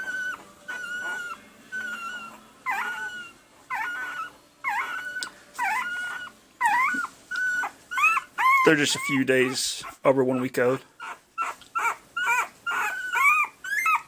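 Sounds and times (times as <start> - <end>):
puppy whining: 0.0 - 14.0.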